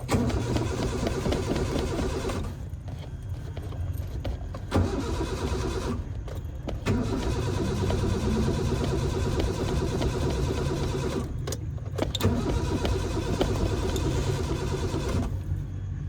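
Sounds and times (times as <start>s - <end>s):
car starter cranking engine: 0.0s - 2.6s, 4.7s - 15.6s.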